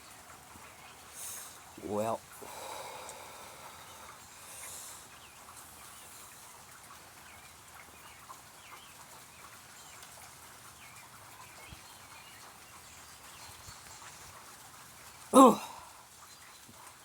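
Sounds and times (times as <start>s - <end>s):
birds chirping: 0.0s - 14.6s
rain falling: 0.0s - 17.0s.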